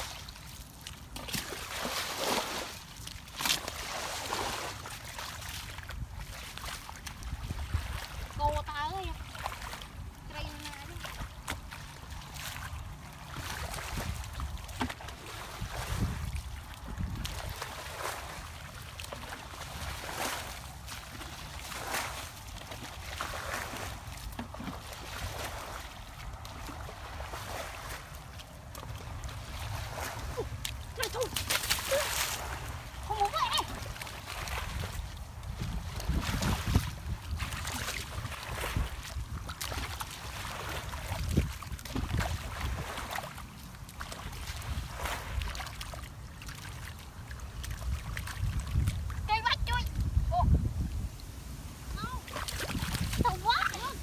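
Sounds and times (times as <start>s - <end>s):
feet splashing through muddy water: 0.0s - 54.0s
wind rumbling on microphone: 3.8s - 54.0s.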